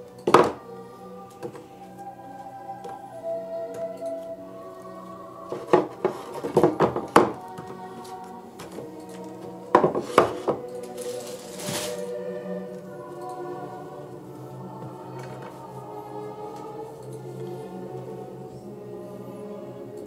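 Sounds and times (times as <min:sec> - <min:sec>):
background music with choir: 0:00.0 - 0:20.0.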